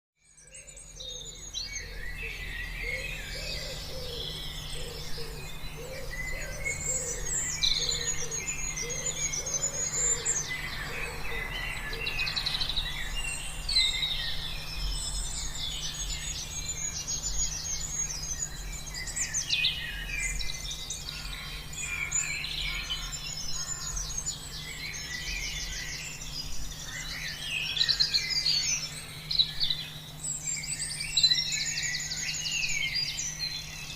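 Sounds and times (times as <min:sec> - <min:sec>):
birds singing and calling: 0:00.2 - 0:33.9
low steady hum: 0:00.4 - 0:33.9.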